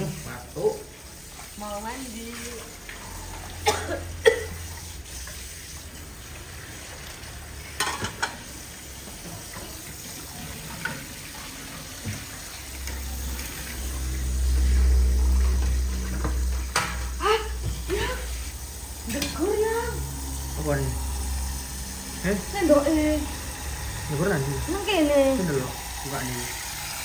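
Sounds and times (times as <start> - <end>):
tap water running into basin: 0.0 - 27.0.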